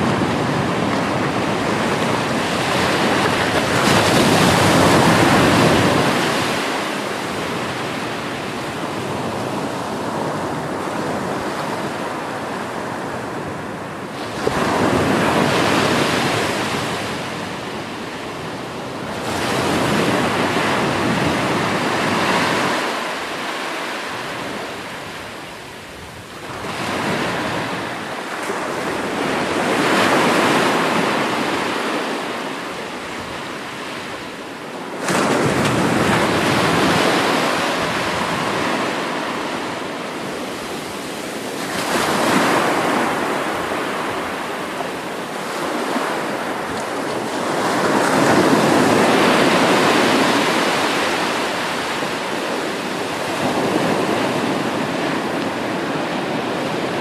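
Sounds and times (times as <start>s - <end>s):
sea surf breaking on beach: 0.0s - 57.0s.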